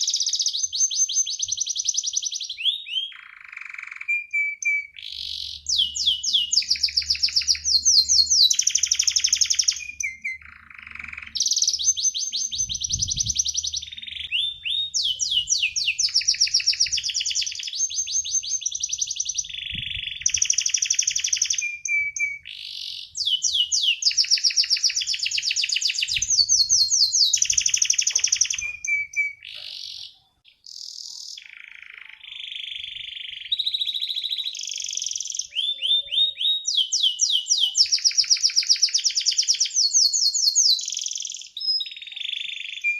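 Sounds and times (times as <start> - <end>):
canary singing: 0.0 - 42.9.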